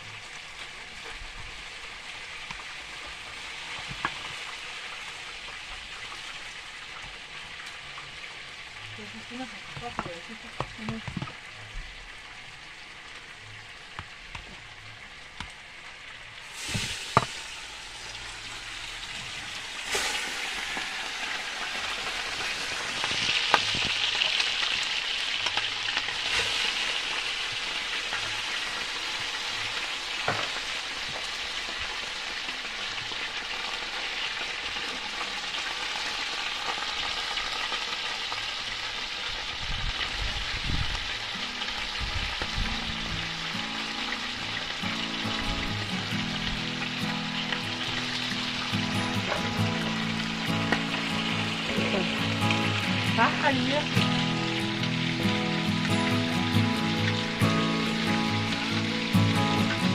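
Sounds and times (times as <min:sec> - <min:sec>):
fish sizzling in oil: 0:00.0 - 0:59.9.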